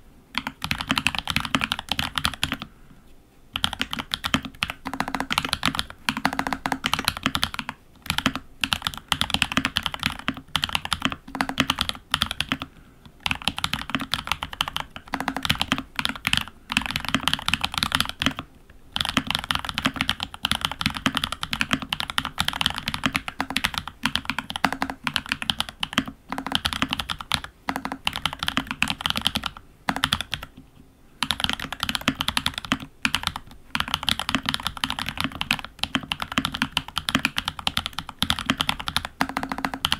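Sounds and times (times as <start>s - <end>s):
mechanical keyboard typing: 0.3s - 2.7s, 3.6s - 30.6s, 31.2s - 39.9s.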